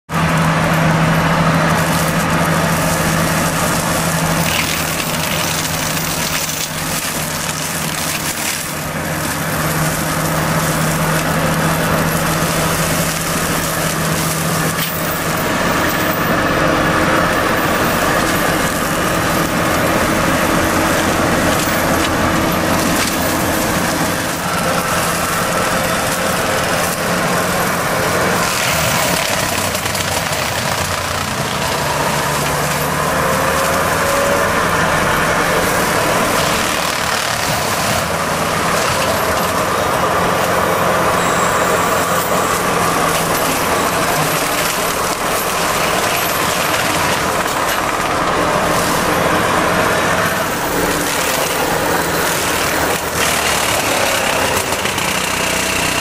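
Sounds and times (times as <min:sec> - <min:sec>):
loader engine droning: 0:00.0 - 0:56.0
mulcher grinding wood: 0:00.0 - 0:56.0.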